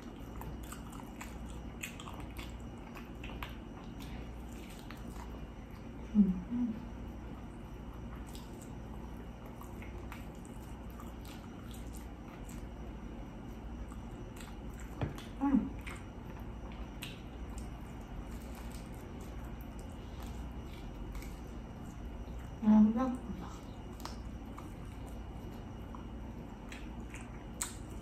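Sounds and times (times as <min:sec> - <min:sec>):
wet chewing and mouth clicks: 0:00.0 - 0:06.0, 0:07.4 - 0:22.6, 0:23.4 - 0:28.0.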